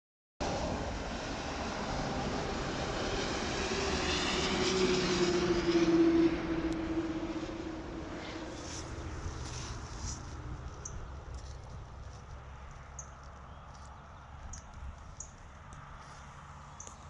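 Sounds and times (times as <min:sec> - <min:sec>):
vehicle engine drone passing: 0:00.4 - 0:17.0.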